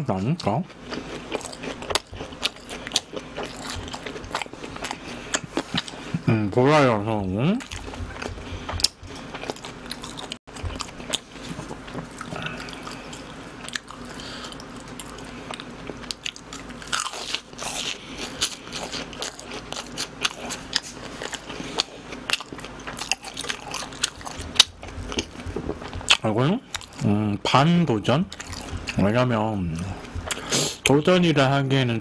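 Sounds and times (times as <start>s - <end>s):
person chewing crunchy snacks: 0.7s - 6.2s, 7.6s - 27.1s, 28.3s - 29.1s.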